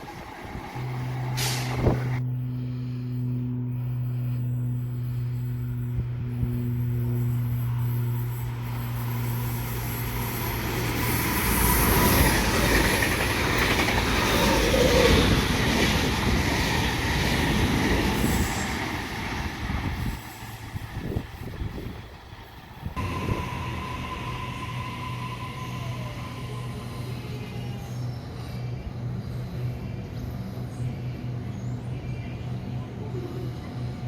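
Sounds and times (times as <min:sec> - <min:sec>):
train wheels rumbling on rails: 0:05.1 - 0:34.0.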